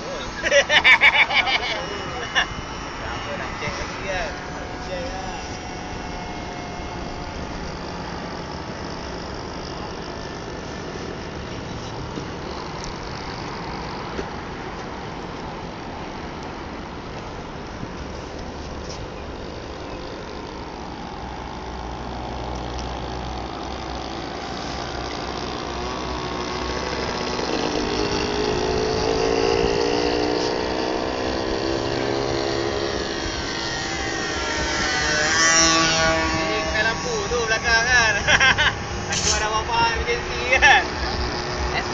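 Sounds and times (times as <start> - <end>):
model plane engine flying overhead: 0.0 - 41.9.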